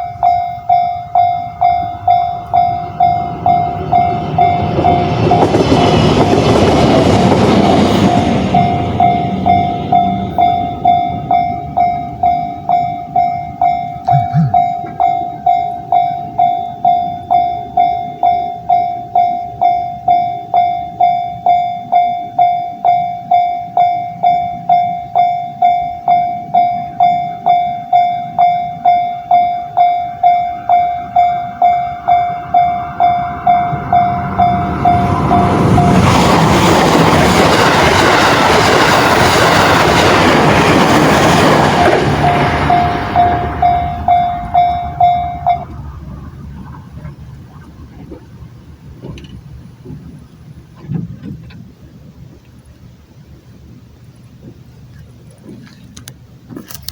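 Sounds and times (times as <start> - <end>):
level crossing warning bell: 0.0 - 50.8
passing train rumble: 0.0 - 56.9.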